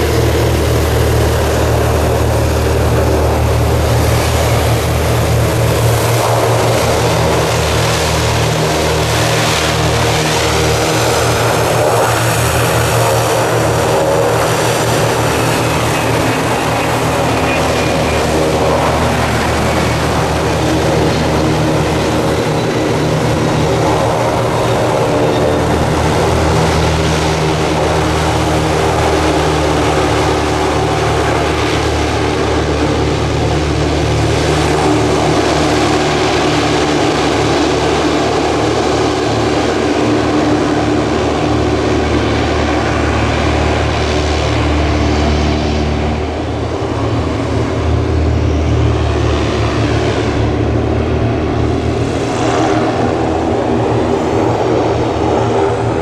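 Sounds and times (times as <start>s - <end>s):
hovercraft propellers and engines running: 0.0s - 56.0s.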